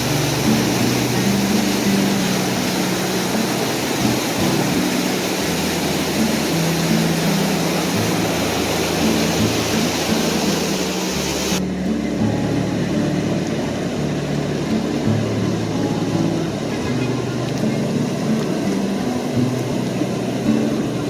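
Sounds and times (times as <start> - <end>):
water rushing through sluice gates: 0.0 - 21.0.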